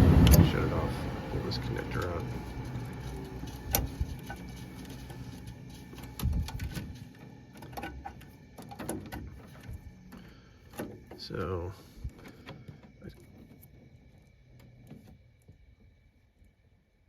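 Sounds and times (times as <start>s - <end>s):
furnace humming: 0.0s - 17.0s.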